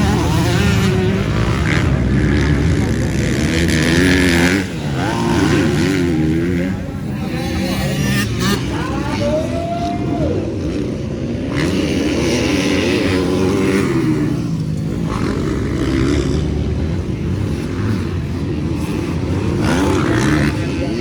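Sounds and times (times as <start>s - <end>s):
motorbike engines revving: 0.0s - 21.0s.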